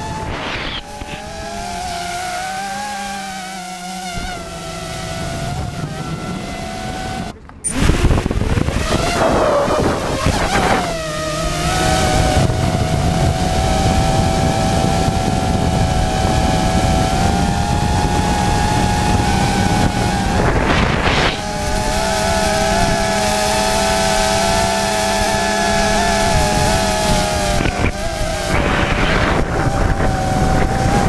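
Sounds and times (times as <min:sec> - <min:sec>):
drone propellers whining: 0:00.0 - 0:31.0
wind noise on microphone: 0:00.0 - 0:31.0.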